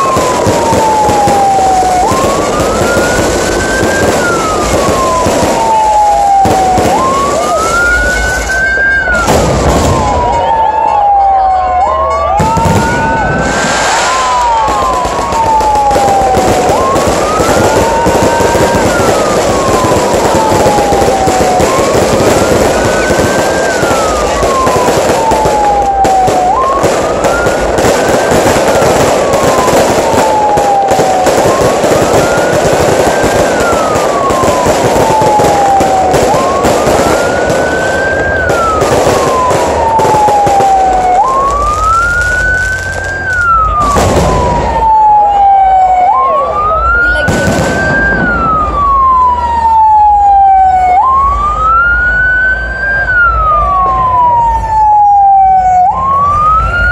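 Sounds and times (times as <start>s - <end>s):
loud firework bangs: 0.0s - 10.6s, 12.4s - 46.2s, 47.0s - 50.8s
fireworks crackling: 0.0s - 10.8s, 12.3s - 56.9s
fire truck siren wailing: 0.0s - 56.9s.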